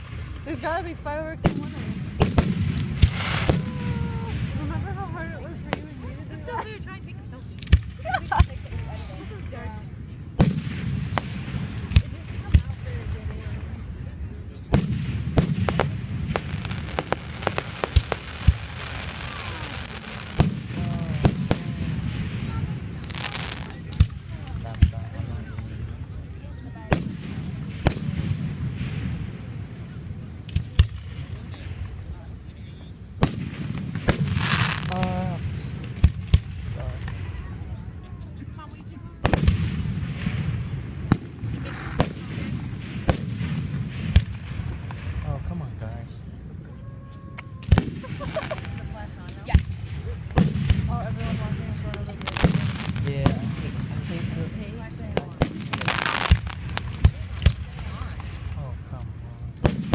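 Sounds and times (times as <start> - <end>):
fireworks bangs and pops: 0.0 - 37.8, 38.5 - 46.5, 47.3 - 59.9
continuous low rumble: 0.0 - 59.9.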